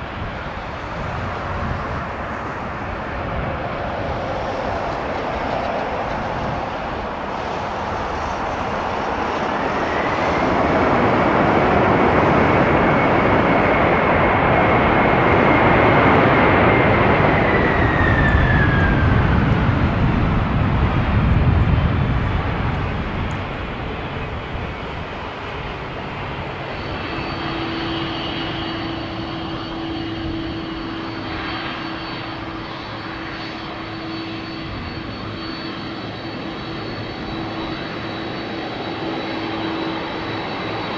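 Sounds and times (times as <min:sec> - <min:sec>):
high engine whine: 0:00.0 - 0:40.9
jet airliner passing overhead: 0:00.0 - 0:40.9.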